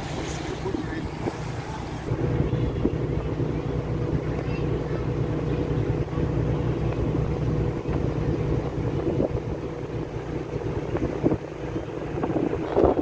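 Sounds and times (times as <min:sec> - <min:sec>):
engine droning: 0:00.0 - 0:13.0
wind buffeting microphone: 0:00.0 - 0:13.0.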